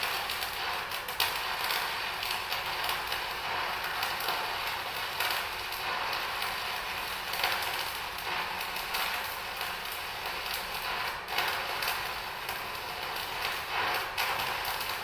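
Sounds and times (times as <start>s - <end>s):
arc welding crackle: 0.0s - 15.0s.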